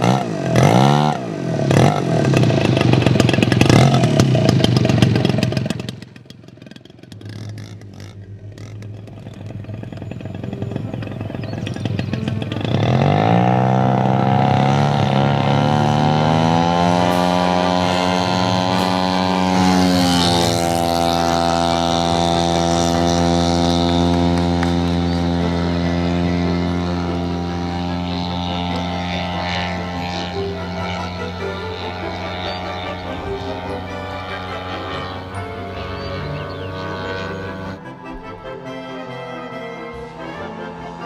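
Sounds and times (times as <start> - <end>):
model aircraft engine droning: 0.0 - 41.0.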